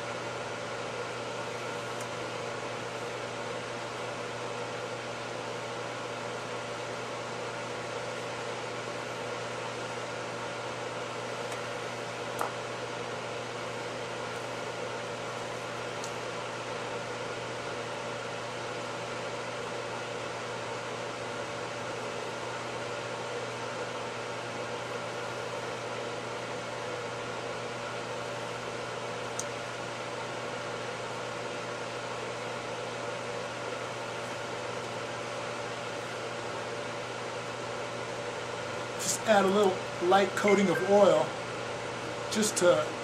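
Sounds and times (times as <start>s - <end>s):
background hum and hiss: 0.0s - 43.0s.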